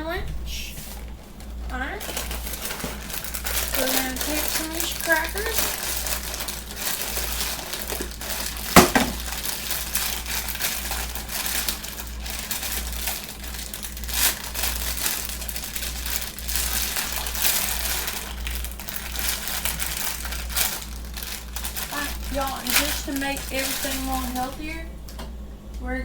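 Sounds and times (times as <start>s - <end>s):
low electrical hum: 0.0s - 26.0s
cracker wrapper crinkling: 0.9s - 24.8s.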